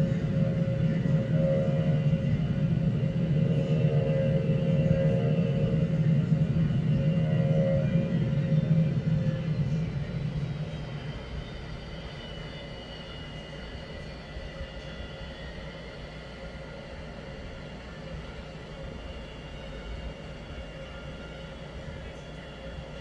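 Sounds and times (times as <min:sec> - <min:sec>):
faint high whine: 0:00.0 - 0:23.0
jet engines droning: 0:00.0 - 0:23.0.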